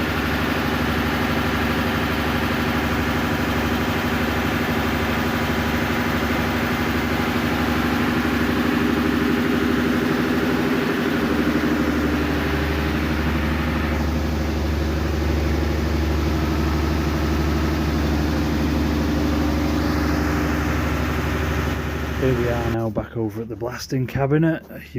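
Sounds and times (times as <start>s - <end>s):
diesel generator engine running: 0.0s - 24.9s
deep heavy hum: 2.5s - 24.9s.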